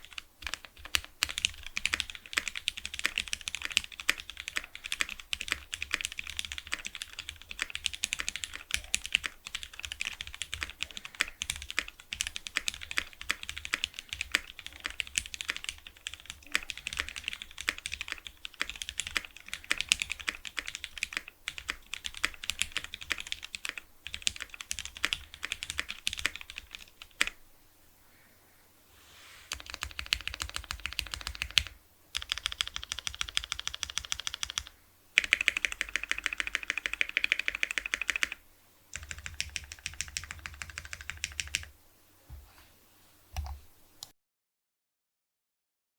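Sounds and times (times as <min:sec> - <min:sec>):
fast typing on mechanical keyboard: 0:00.0 - 0:27.4, 0:29.5 - 0:41.7.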